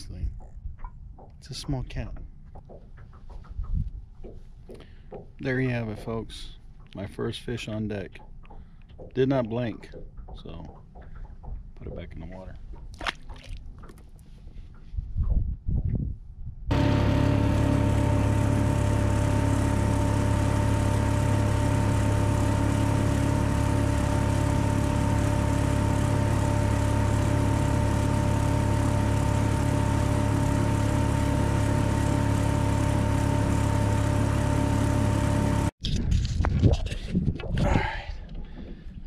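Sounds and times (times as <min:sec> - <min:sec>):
water noise: 0:00.0 - 0:14.6, 0:16.7 - 0:35.8
outboard motor running: 0:00.0 - 0:15.0, 0:16.7 - 0:35.8
wind: 0:00.0 - 0:39.0.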